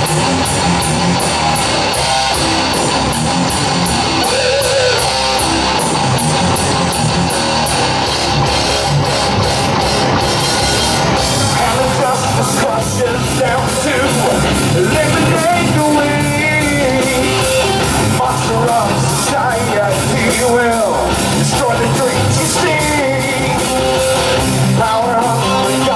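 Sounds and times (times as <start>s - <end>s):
heavy rock band playing: 0.0s - 25.9s.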